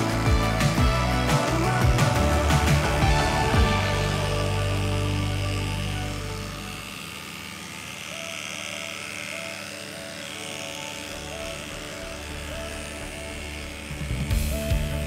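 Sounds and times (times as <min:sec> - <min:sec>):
background music: 0:00.0 - 0:15.0
electric dog clipper buzzing: 0:00.0 - 0:15.0.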